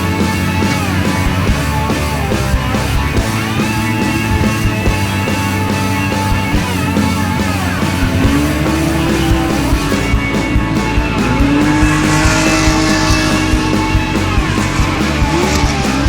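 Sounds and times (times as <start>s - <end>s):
car engine revving: 0.0s - 16.0s
rock music: 0.0s - 16.0s.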